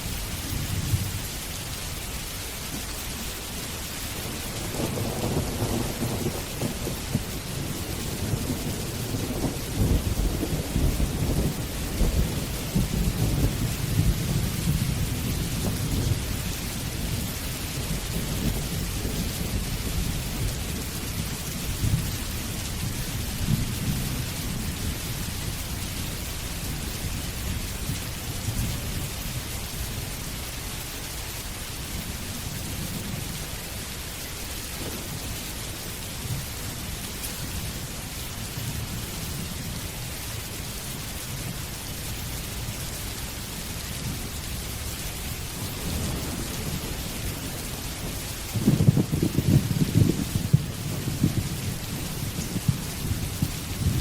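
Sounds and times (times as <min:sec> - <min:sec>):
steady rain: 0:00.0 - 0:54.0
rolling thunder rumble: 0:03.8 - 0:30.4, 0:31.9 - 0:40.2, 0:43.8 - 0:54.0.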